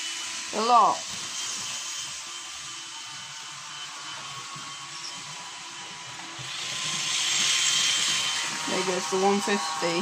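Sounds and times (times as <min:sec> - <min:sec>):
model train motor whirring: 0:00.0 - 0:10.0.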